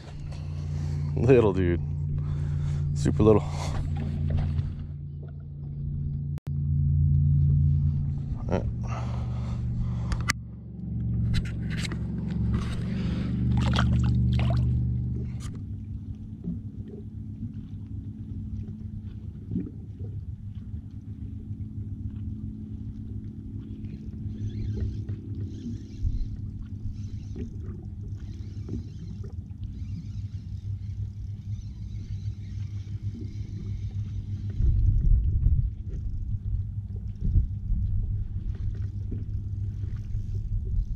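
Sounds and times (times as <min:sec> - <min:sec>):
steady low hum: 0:00.0 - 0:40.9
water splashing and sloshing: 0:00.0 - 0:40.9.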